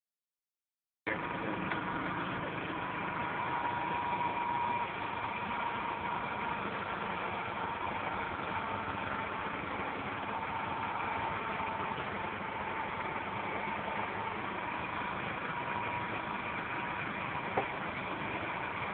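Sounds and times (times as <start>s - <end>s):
engine idling: 1.1s - 18.9s
faint steady whine: 1.1s - 18.9s.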